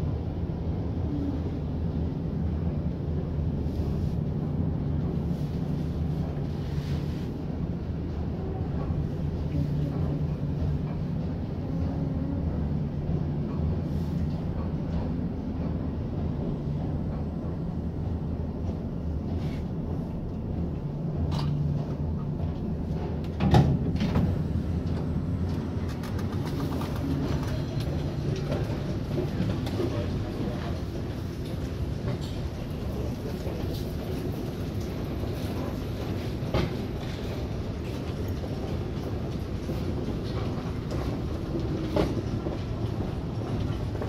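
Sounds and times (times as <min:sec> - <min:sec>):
elevator running rumble: 0:00.0 - 0:44.0.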